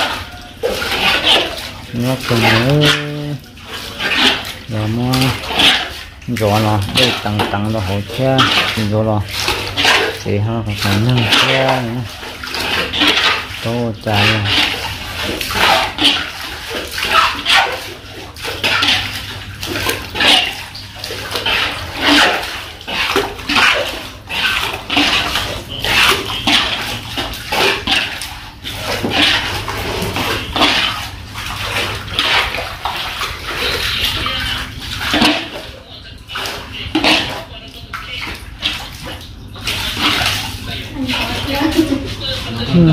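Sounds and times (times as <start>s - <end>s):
steady low hum: 0.0s - 42.9s
water scooped and poured splashing: 0.0s - 42.9s.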